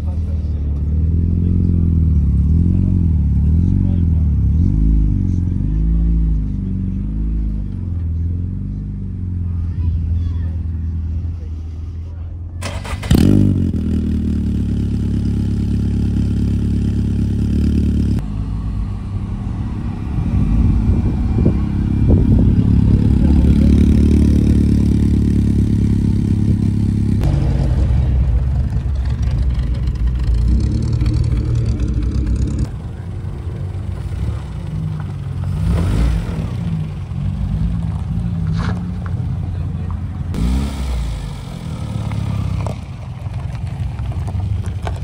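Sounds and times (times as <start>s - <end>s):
car engines running and revving: 0.0s - 45.0s.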